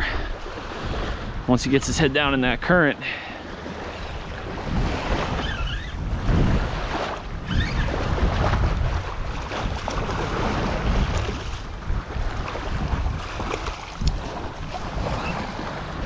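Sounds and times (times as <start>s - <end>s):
wind buffeting microphone: 0.0s - 2.9s, 3.5s - 16.0s
small waves washing on sand: 2.9s - 16.0s.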